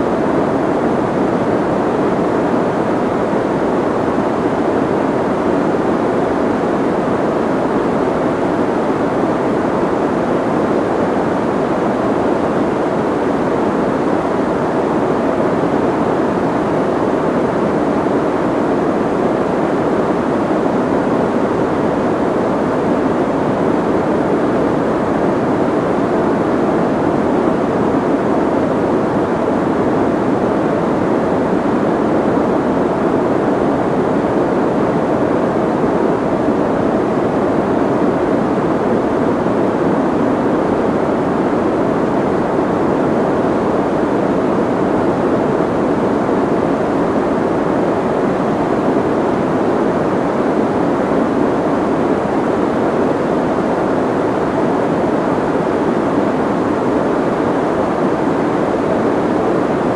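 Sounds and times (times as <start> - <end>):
muffled steady noise: 0.0 - 59.9.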